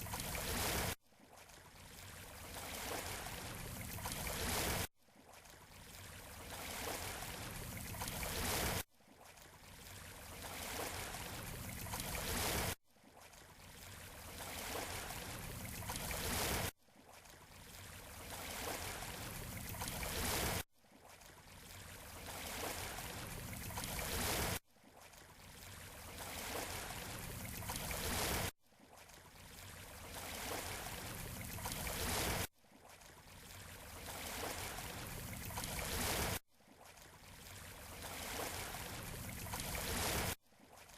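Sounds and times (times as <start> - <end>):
sea waves washing on beach: 0.0 - 40.9.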